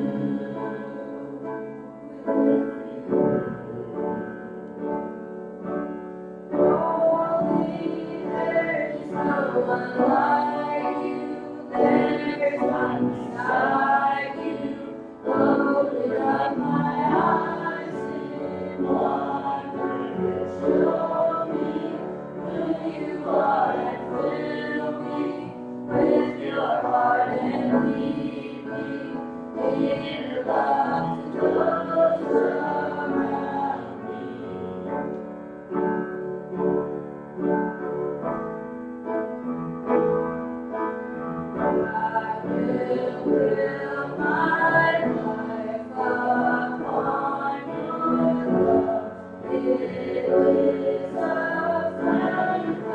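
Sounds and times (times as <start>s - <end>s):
group singing a worship song: 0.0s - 4.9s, 6.5s - 35.0s, 41.5s - 52.9s
keyboard accompaniment: 0.0s - 52.9s.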